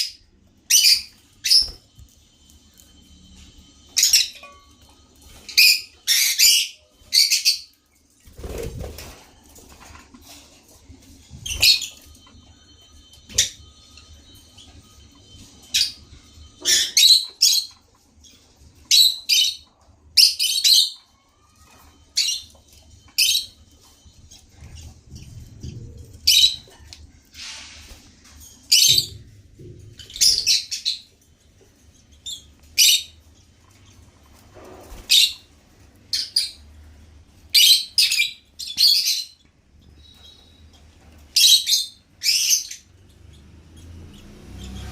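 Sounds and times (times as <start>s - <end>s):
lovebirds chirping: 0.0s - 44.9s.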